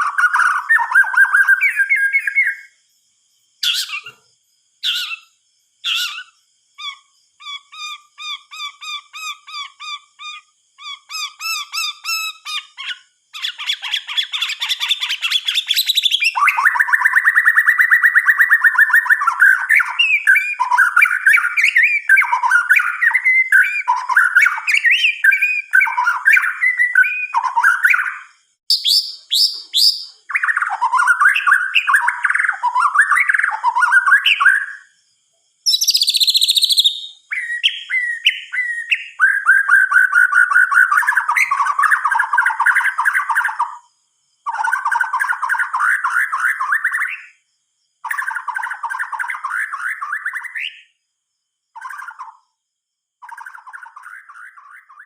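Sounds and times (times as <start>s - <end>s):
bird singing whistled notes: 0.0s - 51.0s, 51.6s - 52.6s, 53.2s - 55.0s.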